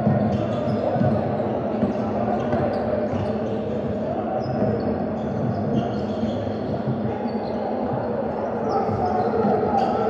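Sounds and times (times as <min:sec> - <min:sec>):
murmur of crowd in gym: 0:00.0 - 0:10.0
sneakers squeaking: 0:00.0 - 0:10.0.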